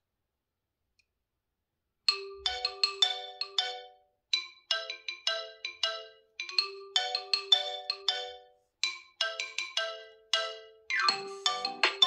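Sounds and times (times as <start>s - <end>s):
phone ringtone chiming melody: 2.1s - 12.0s.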